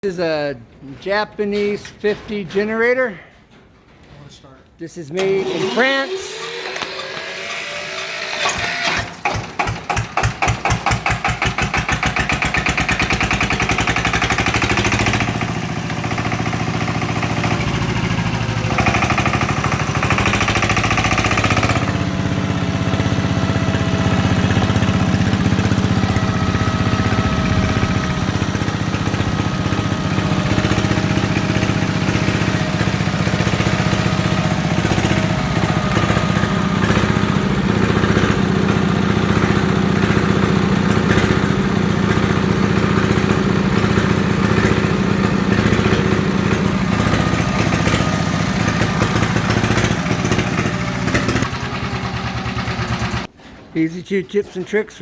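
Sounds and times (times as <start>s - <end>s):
diesel generator engine starting: 5.2s - 55.0s.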